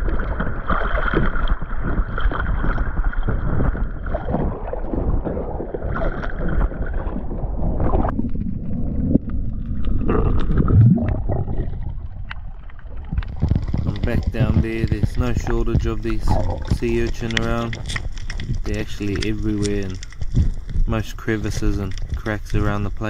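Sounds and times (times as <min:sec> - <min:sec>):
muffled underwater sound: 0:00.0 - 0:23.0
water sloshing and splashing: 0:00.0 - 0:23.0.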